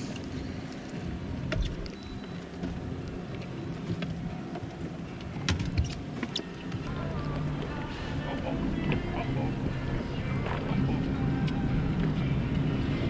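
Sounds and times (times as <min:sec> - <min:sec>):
boat engine hum and rumble: 0:00.0 - 0:13.0.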